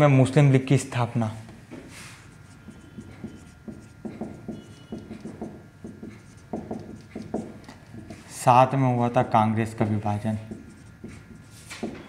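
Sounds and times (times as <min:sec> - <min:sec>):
marker pen writing on whiteboard: 0:01.7 - 0:12.0.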